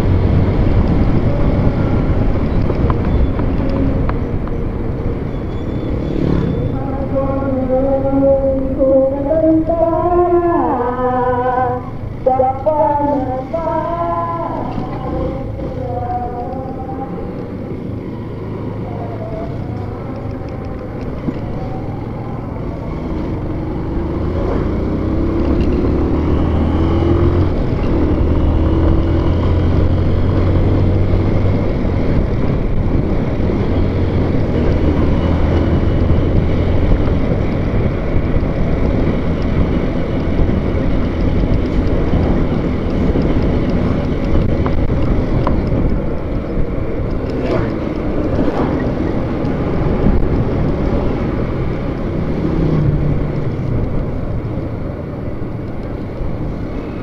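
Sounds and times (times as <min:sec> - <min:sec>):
road and wind noise: 0:00.0 - 0:57.0
vehicle engine hum: 0:00.0 - 0:57.0.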